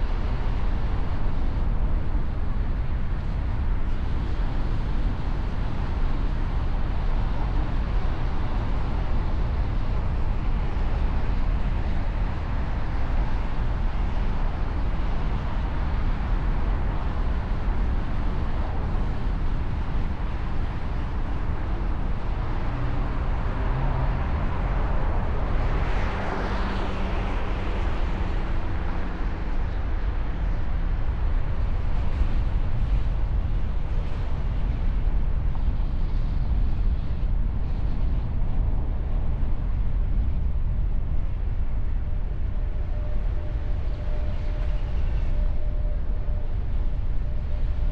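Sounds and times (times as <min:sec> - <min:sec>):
road traffic rumble: 0:01.6 - 0:47.9.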